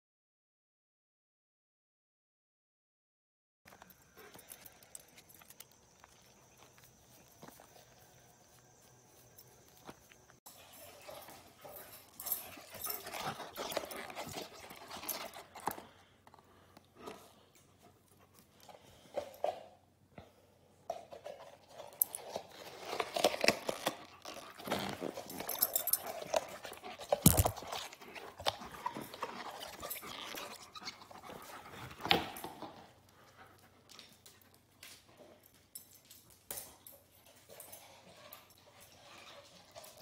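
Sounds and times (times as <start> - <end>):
dog moving on tiled floor: 3.8 - 19.7, 20.9 - 40.0.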